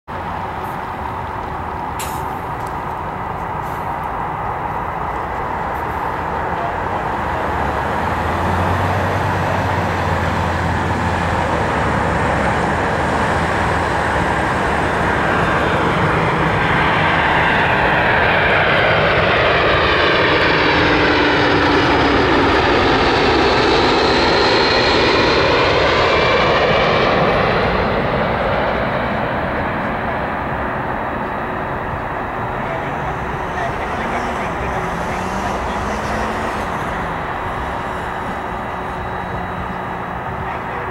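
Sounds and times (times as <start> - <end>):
jet engines passing overhead: 0.1 - 40.9.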